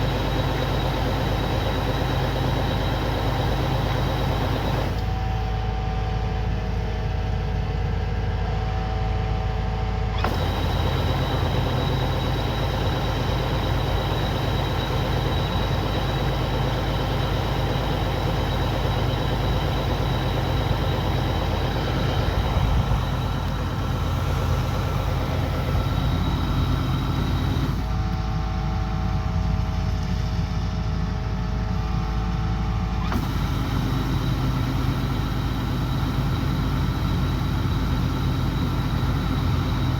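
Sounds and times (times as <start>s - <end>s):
combine harvester diesel drone: 0.0s - 39.9s.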